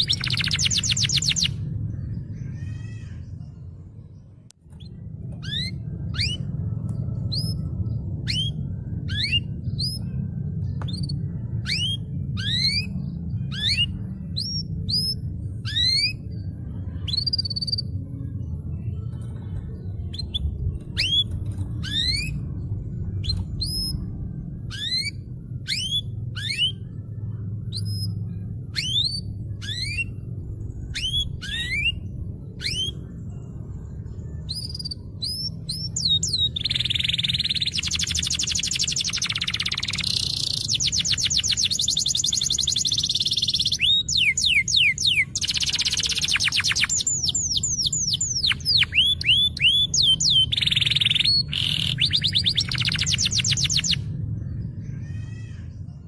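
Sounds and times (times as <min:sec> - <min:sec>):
canary singing: 0:00.0 - 0:03.7, 0:04.7 - 0:18.5, 0:19.9 - 0:55.5
steady low hum: 0:00.0 - 0:56.0.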